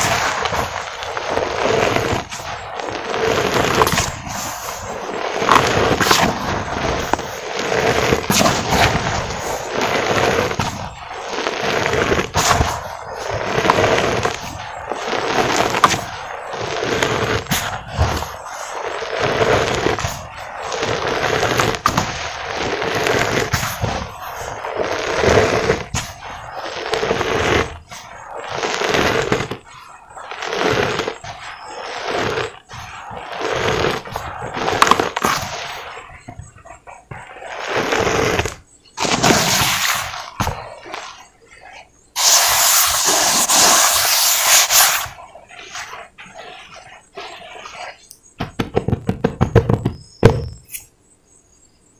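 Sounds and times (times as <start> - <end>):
hands crunching cement powder: 0.0 - 48.8
sharp crackles: 0.0 - 50.9.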